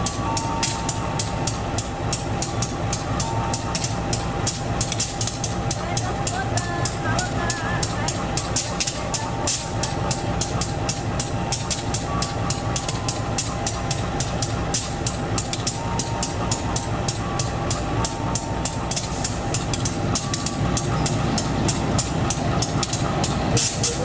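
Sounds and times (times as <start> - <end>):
diesel locomotive rumble: 0.0 - 24.0
train wheels clacking: 0.0 - 24.0.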